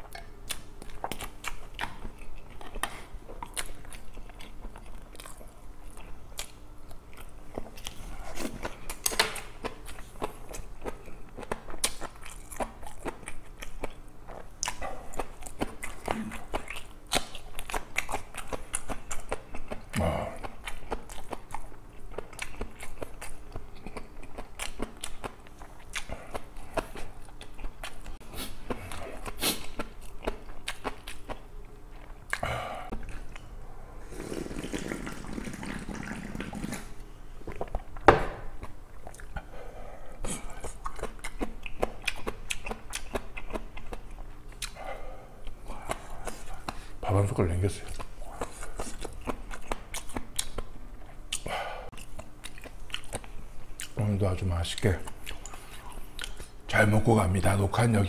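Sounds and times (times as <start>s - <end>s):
person chewing food: 0.0s - 47.0s, 47.8s - 54.0s, 54.7s - 56.6s.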